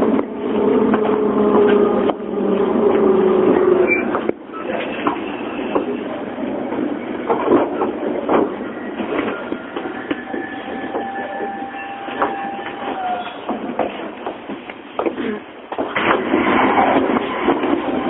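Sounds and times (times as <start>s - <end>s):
train wheel rumble: 0.0s - 18.0s.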